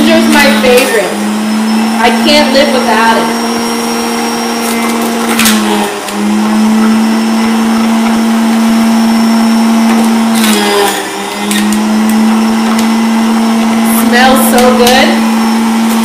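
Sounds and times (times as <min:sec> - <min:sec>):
juice extractor motor hum: 0:00.0 - 0:16.0.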